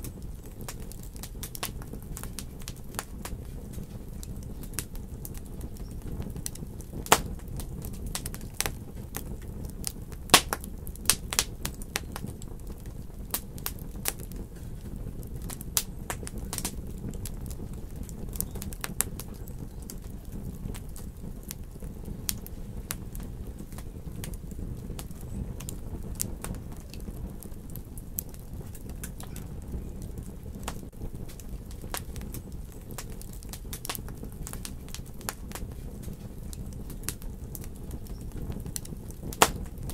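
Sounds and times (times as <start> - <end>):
sharp pops of fire: 0.0 - 39.9
steady low rumble: 0.0 - 39.9
wood fire crackling: 0.0 - 39.9.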